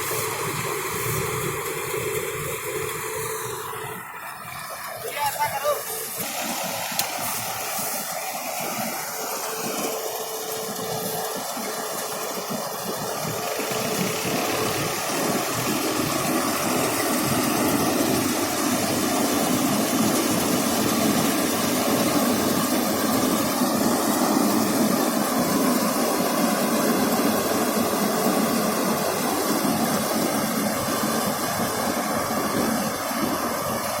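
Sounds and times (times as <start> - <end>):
combine harvester engine droning: 0.0 - 34.0.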